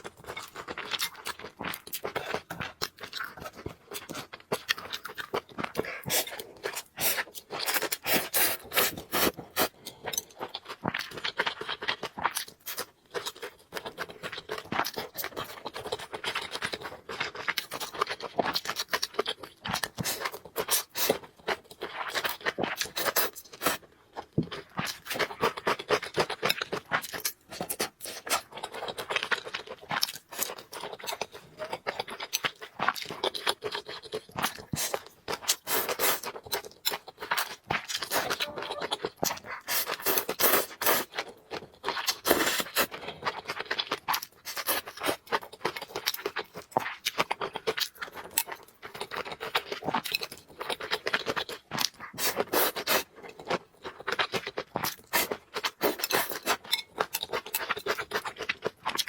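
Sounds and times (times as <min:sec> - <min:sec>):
person chewing noodles: 0:00.0 - 0:59.0.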